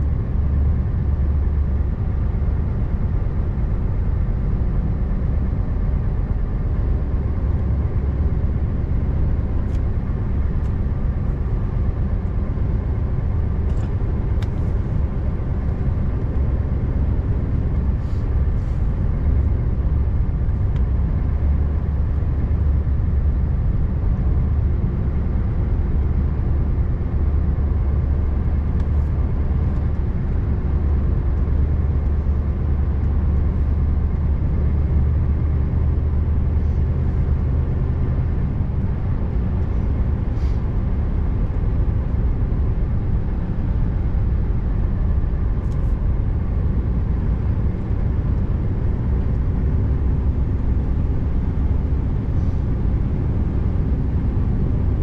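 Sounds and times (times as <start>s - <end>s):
diesel truck engine rumbling: 0.0s - 55.0s
road noise: 0.0s - 55.0s.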